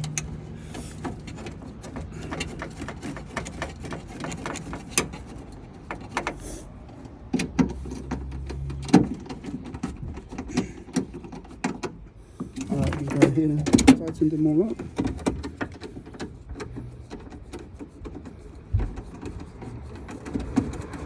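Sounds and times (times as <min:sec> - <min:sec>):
metal parts clicking and knocking: 0:00.0 - 0:21.0.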